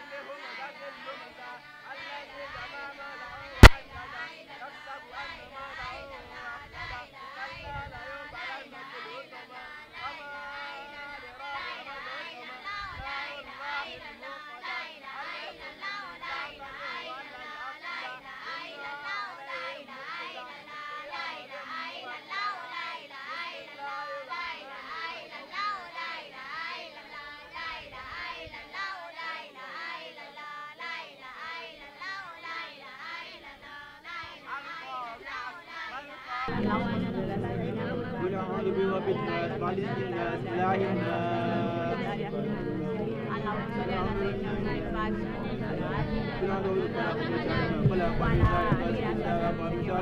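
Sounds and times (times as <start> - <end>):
children singing in chorus: 0.0 - 50.0.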